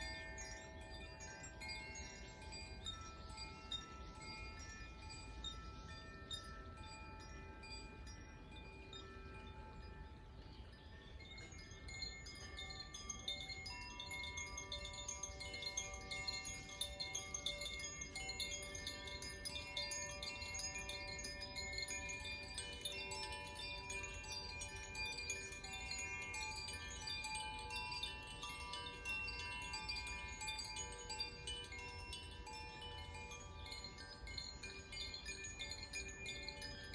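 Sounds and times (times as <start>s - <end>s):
wind chimes ringing: 0.0s - 36.9s.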